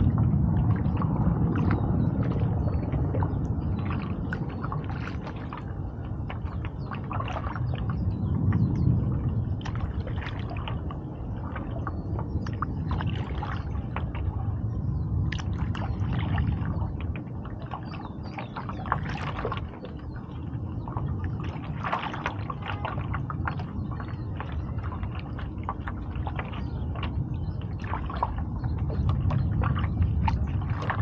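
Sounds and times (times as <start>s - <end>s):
paddle splashing in water: 0.0s - 8.0s, 9.4s - 14.6s, 15.2s - 31.0s
steady low rumble: 0.0s - 31.0s.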